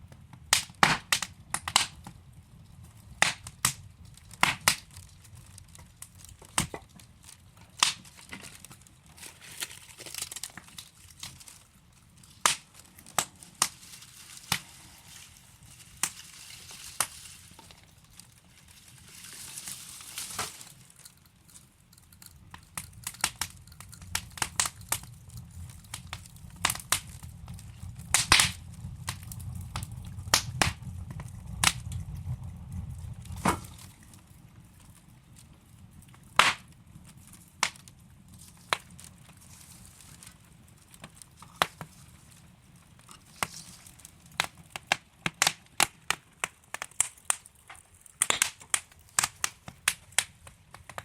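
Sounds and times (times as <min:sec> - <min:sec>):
burning logs popping: 0:00.0 - 0:51.0
low rumble of flame: 0:00.0 - 0:51.0
wood fire crackling: 0:00.0 - 0:51.0.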